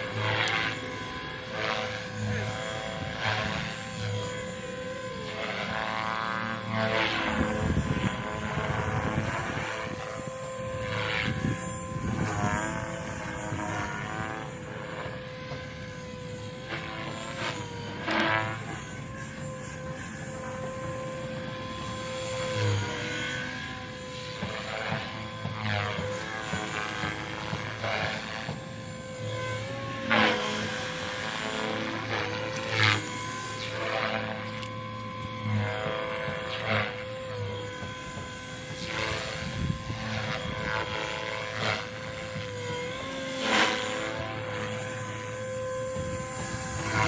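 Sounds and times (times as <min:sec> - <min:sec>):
small propeller engine droning: 0:00.0 - 0:47.0.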